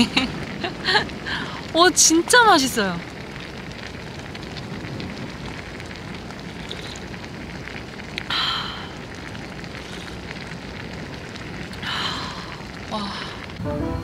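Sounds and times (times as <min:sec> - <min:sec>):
pasta sizzling in oil: 0:00.0 - 0:14.0.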